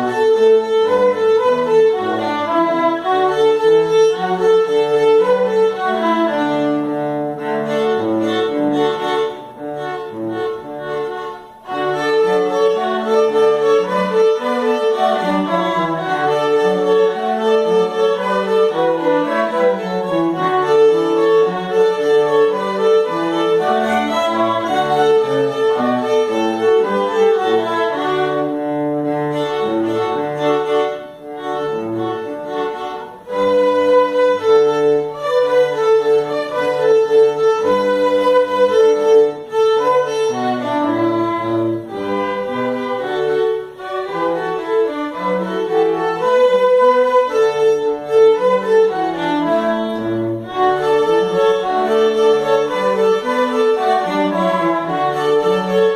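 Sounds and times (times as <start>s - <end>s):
string quartet playing: 0.0s - 55.9s.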